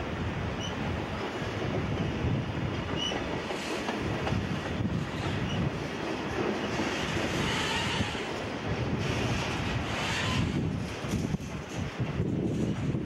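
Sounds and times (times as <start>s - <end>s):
freight train wheels clattering: 1.2s - 13.0s.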